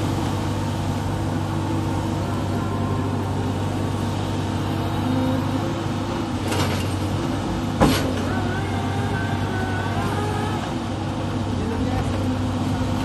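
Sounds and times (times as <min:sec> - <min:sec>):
heavy diesel engine drone: 0:00.0 - 0:13.0.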